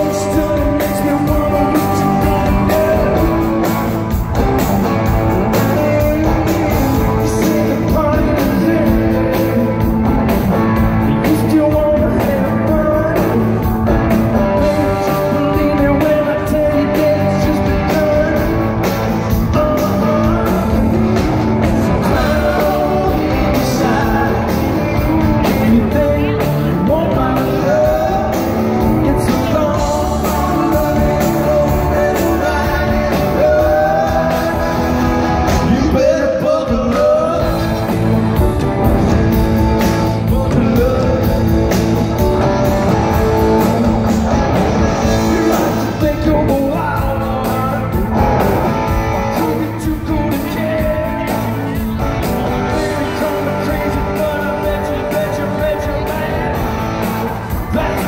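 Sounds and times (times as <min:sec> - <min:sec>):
drum kit: 0:00.0 - 0:58.0
electric guitars: 0:00.0 - 0:58.0
male lead vocal: 0:00.0 - 0:58.0.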